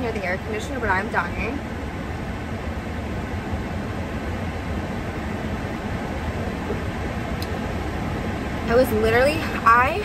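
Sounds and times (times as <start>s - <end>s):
car air conditioner blowing: 0.0s - 10.0s.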